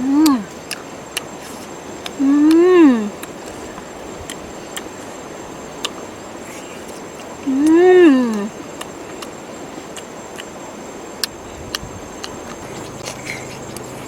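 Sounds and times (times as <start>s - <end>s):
insect-like hiss: 0.0s - 14.0s.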